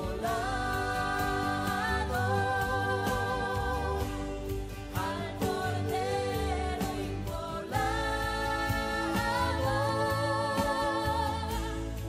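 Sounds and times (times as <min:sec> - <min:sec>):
sustained bass: 0:00.0 - 0:12.0.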